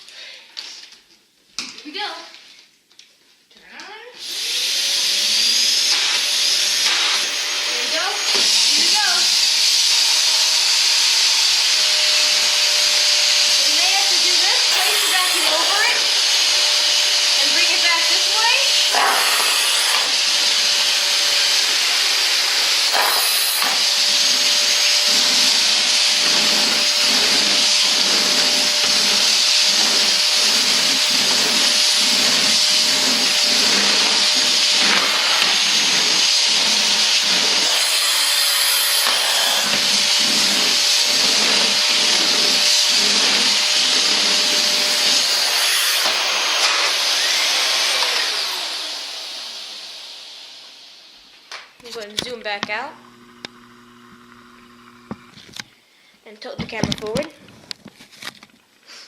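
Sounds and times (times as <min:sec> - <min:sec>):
vacuum cleaner running: 0:04.2 - 0:55.6.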